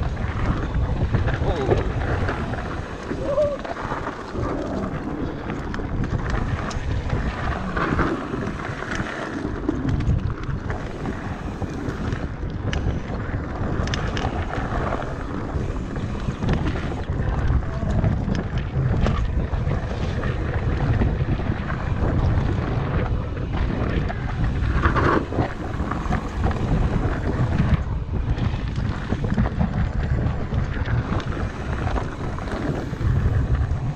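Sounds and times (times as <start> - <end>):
bike rattles and clicks: 0.0 - 33.9
bike tyres rumbling on dirt: 0.0 - 33.9
wind buffeting microphone: 0.0 - 33.9.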